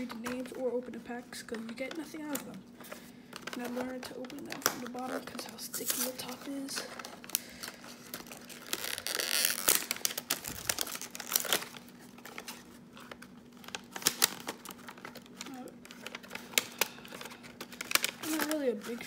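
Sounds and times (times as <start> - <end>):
card packaging crinkling and tearing: 0.0 - 19.0.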